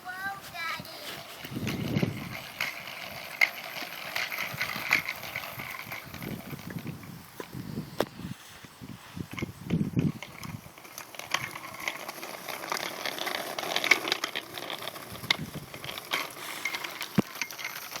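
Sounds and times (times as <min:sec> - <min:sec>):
bicycle rattling and ticking: 0:00.0 - 0:07.3, 0:09.3 - 0:18.0.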